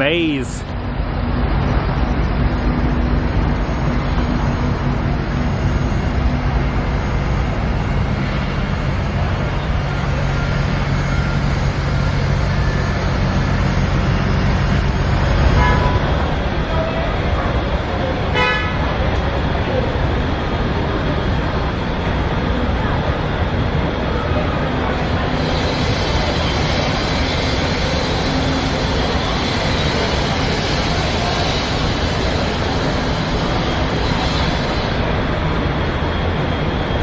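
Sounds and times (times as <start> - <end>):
vehicle engine and road noise: 0.0 - 37.0.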